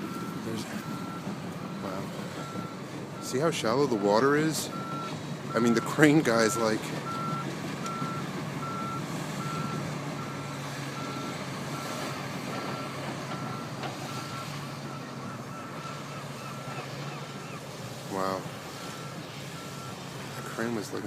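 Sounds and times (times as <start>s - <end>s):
backup alarm beeping: 0.0s - 17.6s, 18.7s - 20.7s
diesel engine running: 0.0s - 21.0s.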